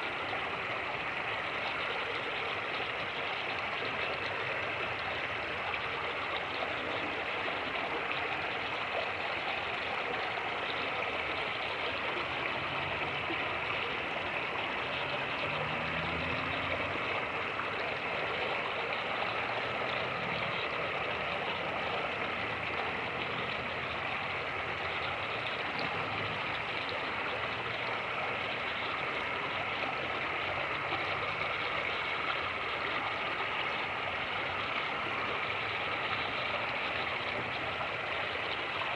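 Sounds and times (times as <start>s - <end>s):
creek rushing over rapids: 0.0s - 38.9s.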